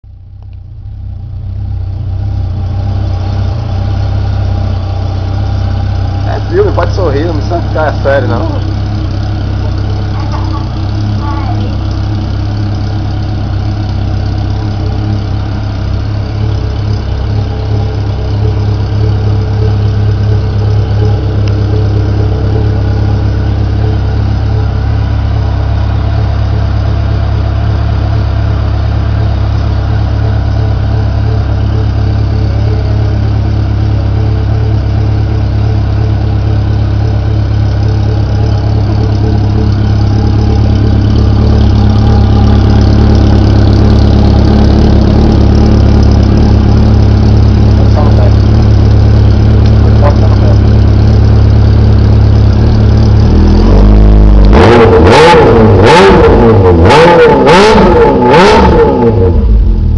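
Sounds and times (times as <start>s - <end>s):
motorcycle engine idling: 0.1s - 54.2s.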